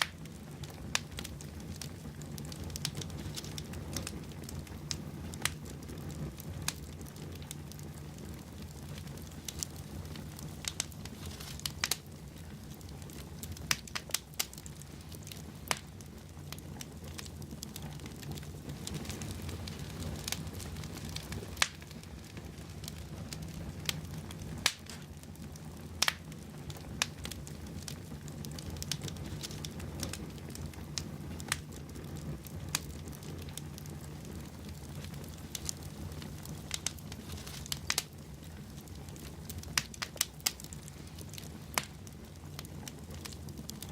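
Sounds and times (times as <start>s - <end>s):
flames rushing: 0.0s - 43.9s
logs crackling and popping: 0.0s - 43.9s.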